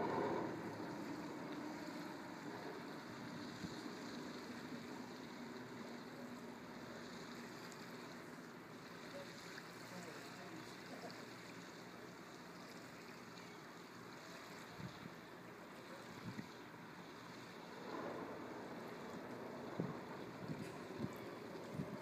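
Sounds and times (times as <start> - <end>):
distant diesel boat engine: 0.0 - 11.1, 13.6 - 22.0.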